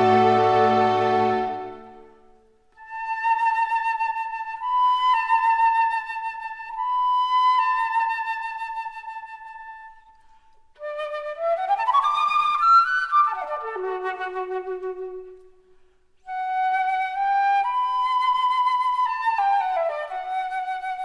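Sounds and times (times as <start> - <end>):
solo flute playing: 0.0 - 15.6, 16.2 - 21.0.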